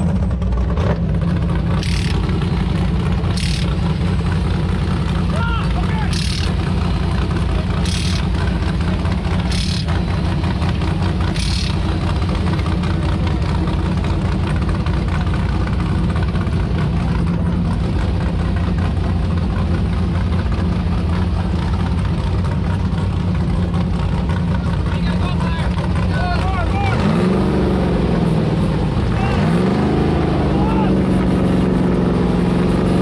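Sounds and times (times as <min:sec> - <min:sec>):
race car engine idling: 0:00.0 - 0:33.0.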